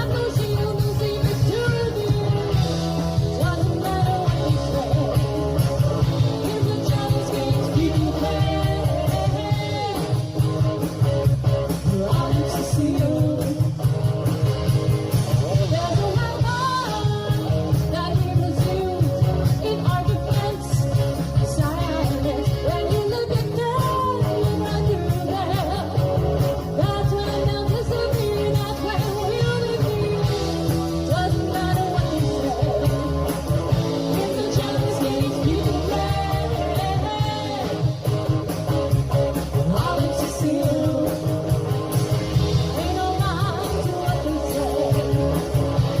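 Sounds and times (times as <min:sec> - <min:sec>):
lead vocal singing: 0:00.0 - 0:10.5, 0:11.6 - 0:13.9, 0:15.4 - 0:38.0, 0:39.4 - 0:46.0
bass guitar: 0:00.0 - 0:46.0
electric guitar: 0:00.0 - 0:46.0
live band playing pop-rock: 0:00.0 - 0:46.0
steady drum beat: 0:00.0 - 0:46.0.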